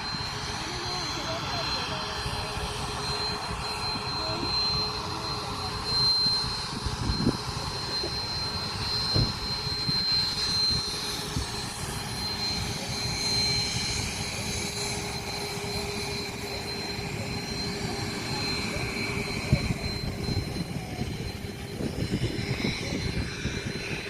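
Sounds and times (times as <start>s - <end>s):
jet engines whining: 0.0s - 24.0s.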